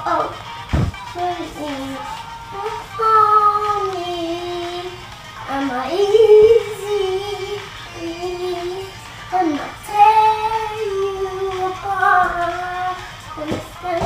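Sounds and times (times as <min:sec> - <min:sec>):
girl singing pop melody: 0:00.0 - 0:14.0.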